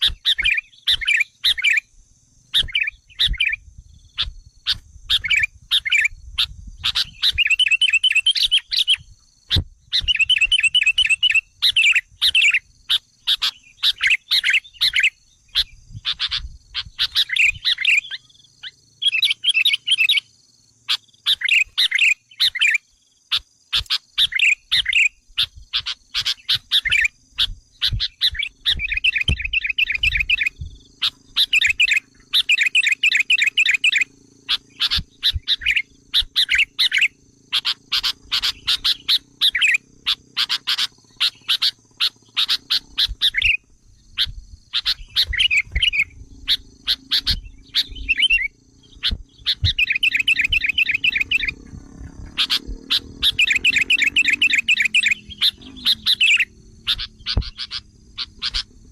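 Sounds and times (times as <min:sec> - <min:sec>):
bulbuls rapid chattering calls: 0:00.0 - 0:01.8, 0:02.5 - 0:58.9.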